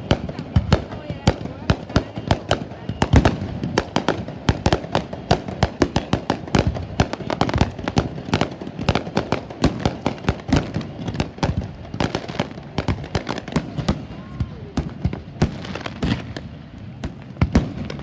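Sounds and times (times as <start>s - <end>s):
fireworks bangs and cracks: 0.0s - 18.0s
fireworks heavy boom: 0.0s - 18.0s.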